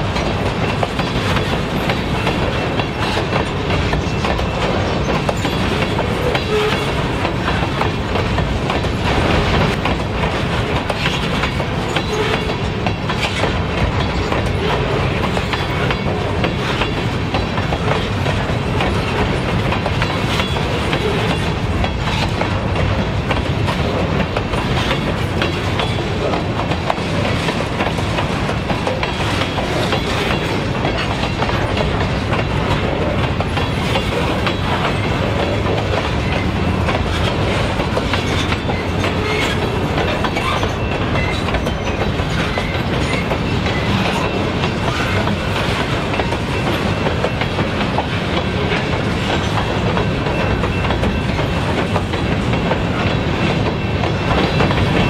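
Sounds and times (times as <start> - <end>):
train wheels rumbling: 0.0 - 55.0
wheels clacking on rail joints: 0.0 - 55.0.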